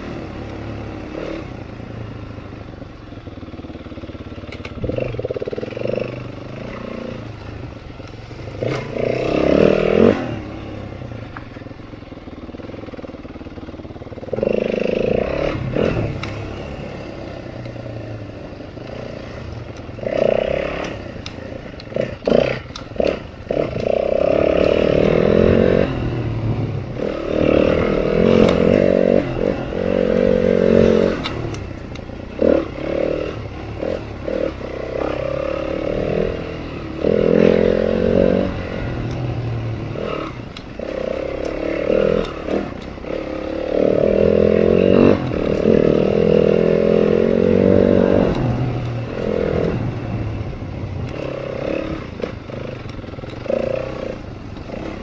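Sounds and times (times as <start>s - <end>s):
dirt bike engine revving: 0.0s - 11.3s, 12.3s - 55.0s.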